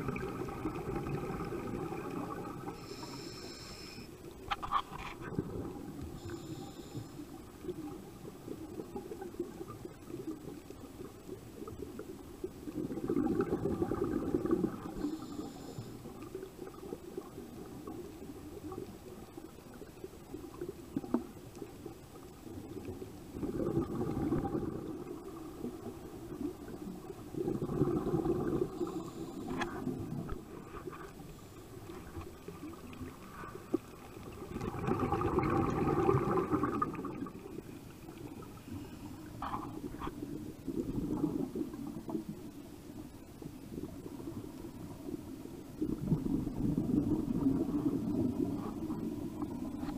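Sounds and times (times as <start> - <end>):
exhaled bubbles gurgling underwater: 0.0 - 4.5, 5.2 - 49.9
low rumble of water: 0.0 - 49.9.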